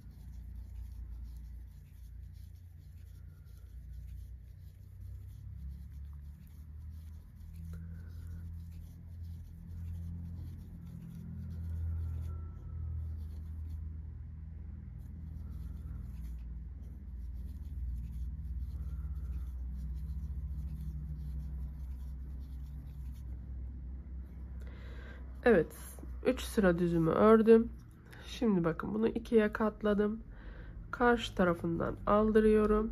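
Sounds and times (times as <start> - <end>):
crochet hook scratching yarn: 0.0 - 24.6, 25.2 - 30.1, 31.0 - 32.9
low steady rumble: 0.0 - 32.9.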